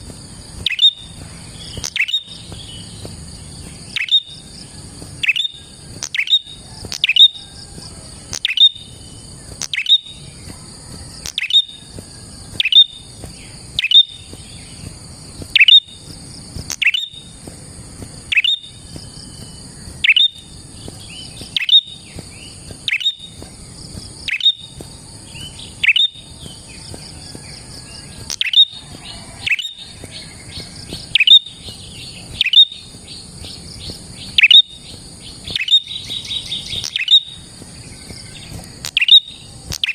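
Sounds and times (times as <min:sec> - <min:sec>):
steady high buzzing: 0:00.0 - 0:39.9
bird chip calls: 0:00.6 - 0:07.5, 0:08.2 - 0:16.0, 0:16.6 - 0:17.4, 0:18.2 - 0:39.9.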